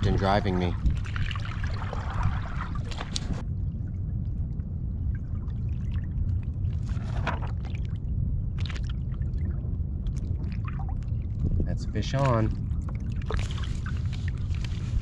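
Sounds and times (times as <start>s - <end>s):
water lapping against kayak hull: 0.0s - 3.4s, 5.2s - 15.0s
wind rumbling on microphone: 0.0s - 15.0s.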